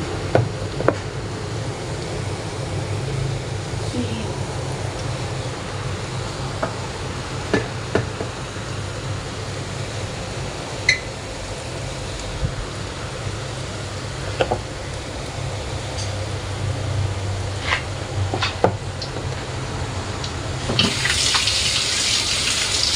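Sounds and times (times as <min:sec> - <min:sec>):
dough sizzling in hot oil: 0:00.0 - 0:22.9.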